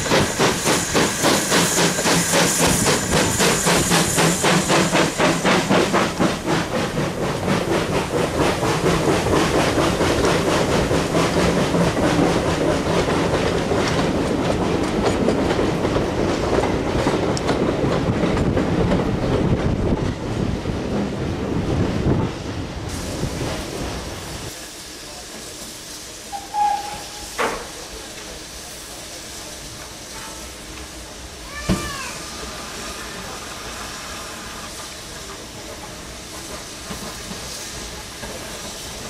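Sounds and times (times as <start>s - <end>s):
steam locomotive exhaust chuffs: 0.0s - 19.8s, 22.4s - 31.4s, 32.1s - 39.0s
train wheels clattering on rails: 0.0s - 39.0s.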